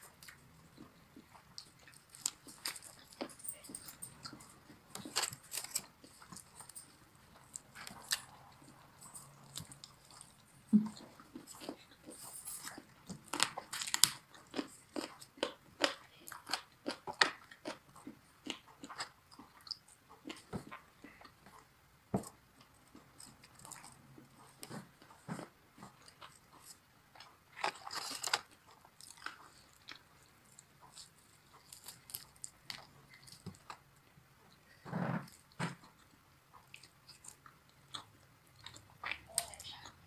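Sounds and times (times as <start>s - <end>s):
chewing and crunching fried chicken: 0.0s - 40.0s.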